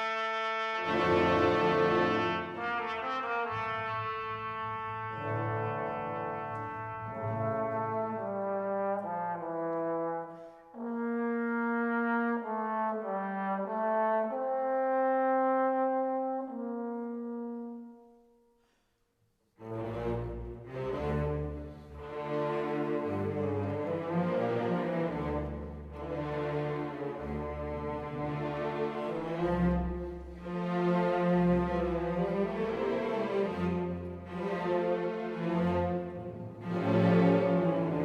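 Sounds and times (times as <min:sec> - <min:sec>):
slow brass melody: 0:00.0 - 0:18.8, 0:19.6 - 0:38.0.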